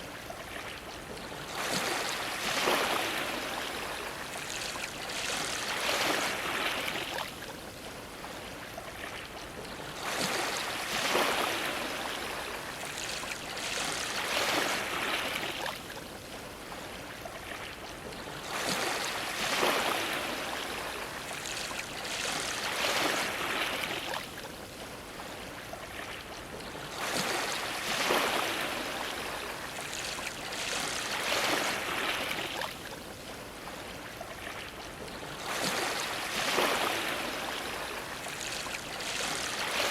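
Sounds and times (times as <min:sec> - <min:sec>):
waves washing against a dock: 0:00.0 - 0:39.9.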